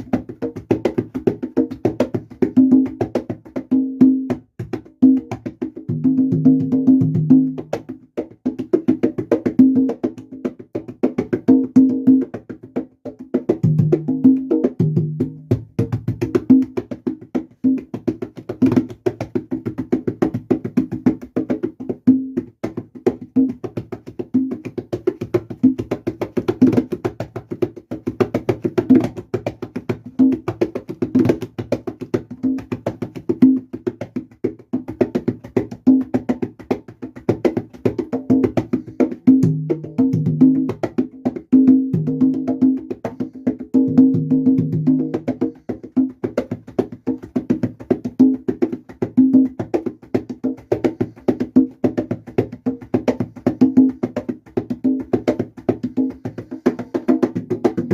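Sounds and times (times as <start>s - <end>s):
congas playing salsa groove: 0.0s - 57.9s.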